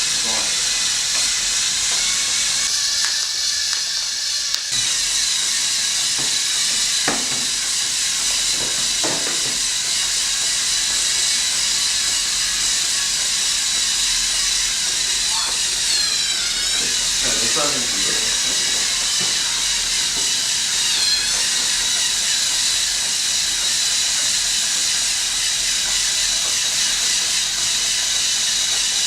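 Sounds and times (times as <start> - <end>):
vacuum cleaner motor hiss: 0.0 - 29.0.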